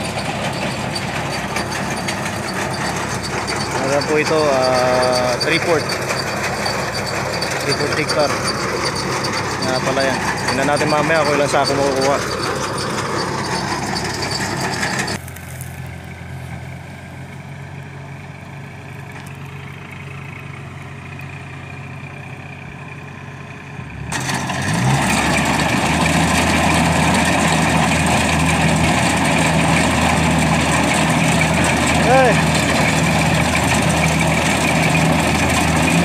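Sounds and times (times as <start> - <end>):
combine harvester engine running: 0.0 - 36.0.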